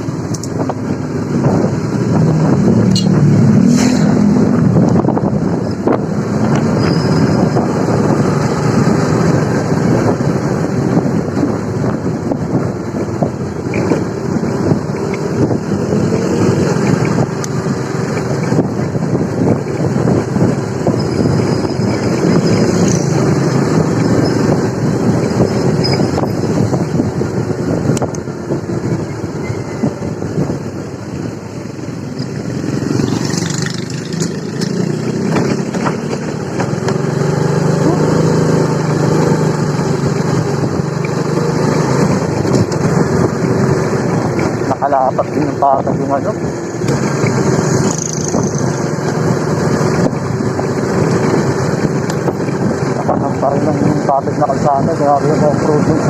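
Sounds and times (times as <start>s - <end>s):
motorcycle engine running: 0.0s - 56.0s
wind buffeting on microphone: 0.0s - 56.0s.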